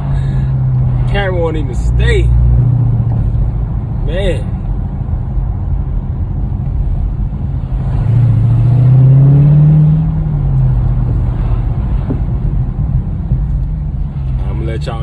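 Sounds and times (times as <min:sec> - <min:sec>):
car engine rumbling and revving: 0:00.0 - 0:15.0.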